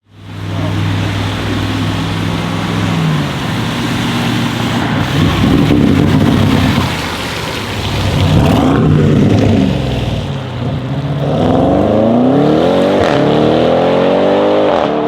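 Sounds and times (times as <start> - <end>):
car engine revving: 0.2 - 15.0.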